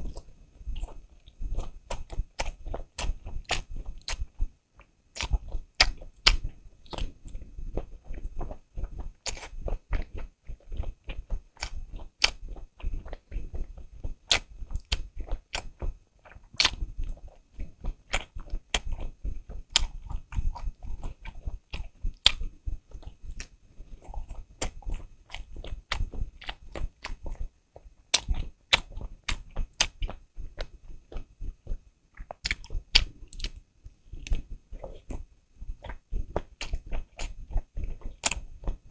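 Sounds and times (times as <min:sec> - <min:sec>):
crisp chewing and biting: 0:00.0 - 0:33.6, 0:34.2 - 0:38.8.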